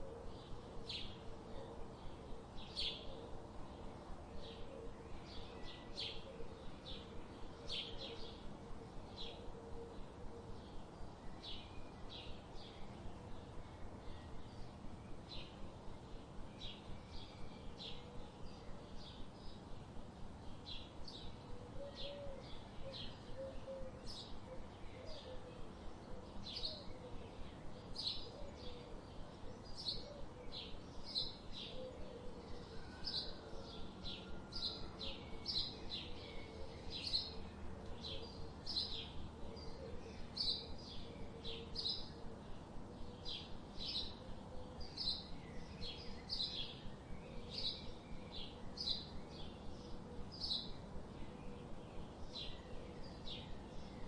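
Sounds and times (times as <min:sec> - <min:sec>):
faint background hum: 0:00.0 - 0:54.0
small birds chirping: 0:02.0 - 0:54.0.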